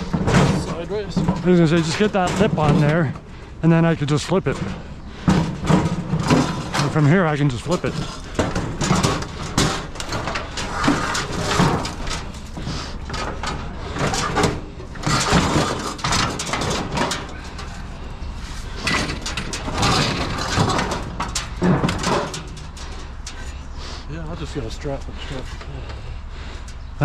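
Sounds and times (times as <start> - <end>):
metal barbecue clanking and scraping: 0.0 - 27.0.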